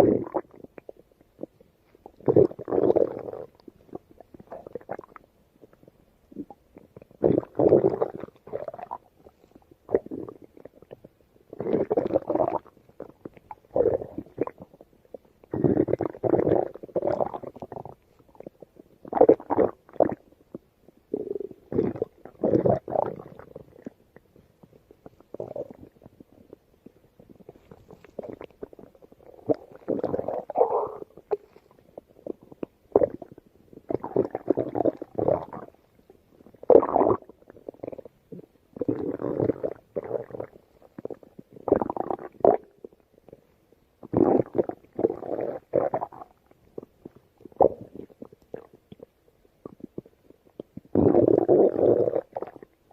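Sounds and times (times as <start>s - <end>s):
stomach growling: 0.0s - 52.9s.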